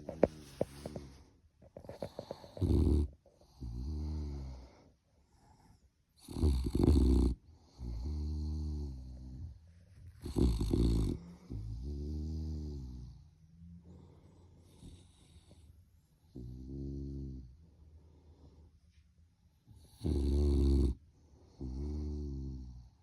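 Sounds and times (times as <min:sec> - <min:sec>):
puppy snoring: 0:00.0 - 0:17.6, 0:19.6 - 0:23.0.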